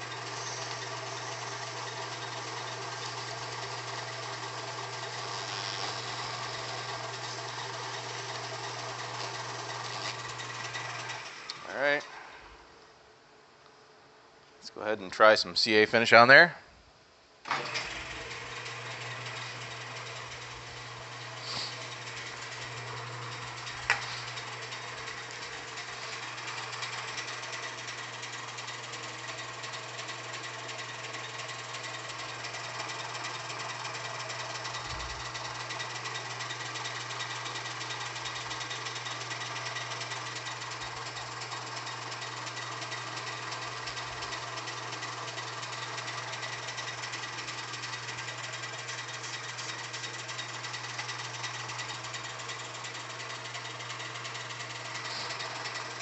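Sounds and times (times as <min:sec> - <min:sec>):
wood lathe motor hum: 0:00.0 - 0:12.1, 0:17.5 - 0:56.0.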